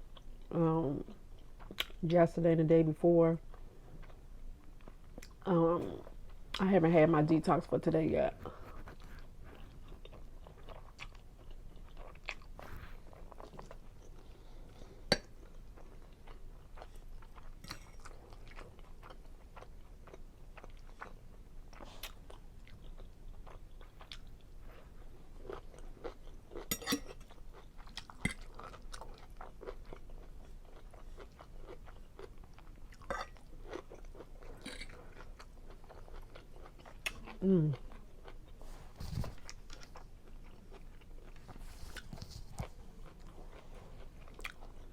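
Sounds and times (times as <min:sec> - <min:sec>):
person chewing food: 0:03.4 - 0:05.4, 0:08.4 - 0:44.9.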